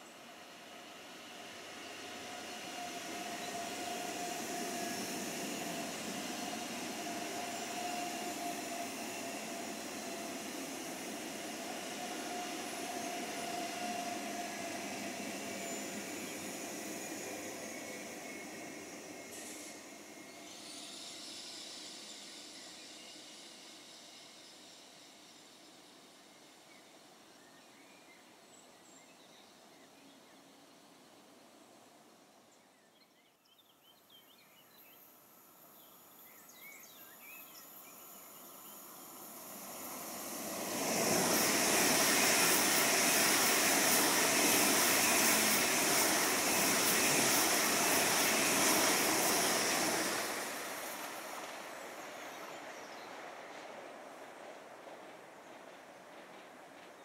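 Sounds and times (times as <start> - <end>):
train passing at speed: 0.0 - 32.4, 34.3 - 57.0.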